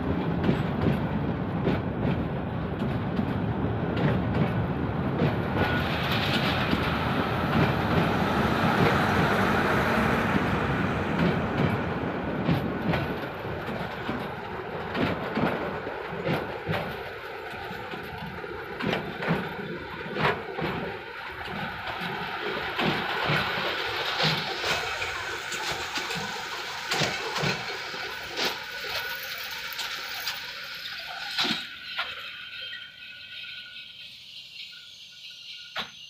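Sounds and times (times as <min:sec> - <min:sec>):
train wheels clattering: 0:00.0 - 0:36.0.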